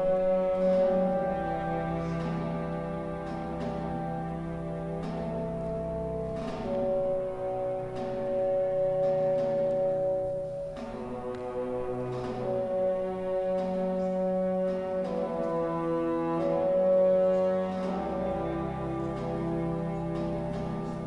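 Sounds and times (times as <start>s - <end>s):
orchestra playing a march: 0.0s - 21.0s.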